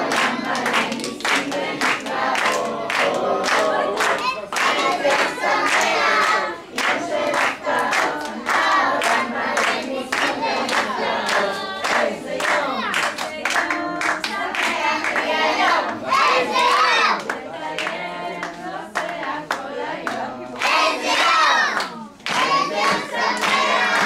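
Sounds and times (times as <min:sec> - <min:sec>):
hands clapping: 0:00.0 - 0:15.3, 0:16.6 - 0:24.0
children singing: 0:00.0 - 0:24.0.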